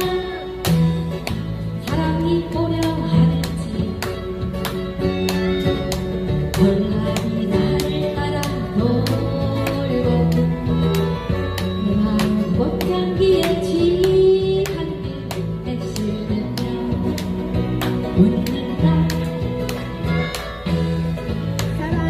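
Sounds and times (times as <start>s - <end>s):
strummed acoustic guitars: 0.0s - 22.0s.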